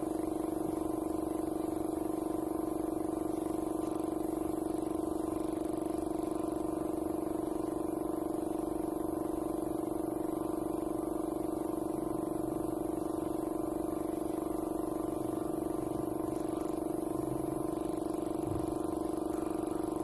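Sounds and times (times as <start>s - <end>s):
air compressor humming: 0.0s - 20.0s.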